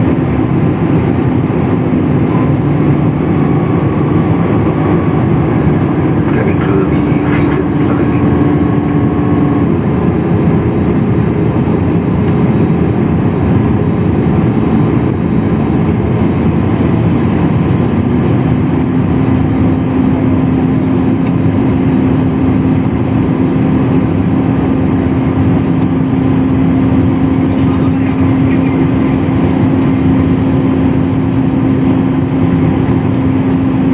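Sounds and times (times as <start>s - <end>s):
engine hum: 0.0s - 33.9s
jet engines and airflow rushing: 0.0s - 33.9s.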